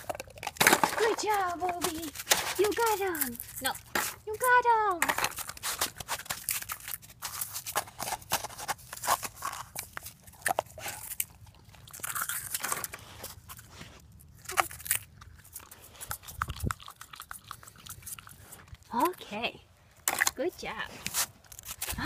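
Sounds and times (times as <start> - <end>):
dog chewing plastic eggs: 0.0 - 19.2.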